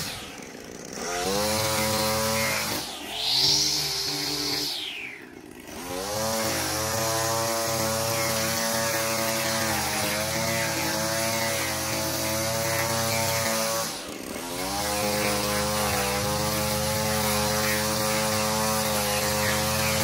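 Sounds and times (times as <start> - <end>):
petrol line trimmer running: 0.0 - 20.0.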